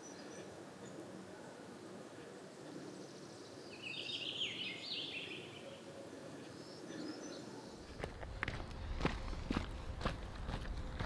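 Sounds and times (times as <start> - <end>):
faint forest ambience: 0.0 - 11.0
songbird singing: 0.0 - 11.0.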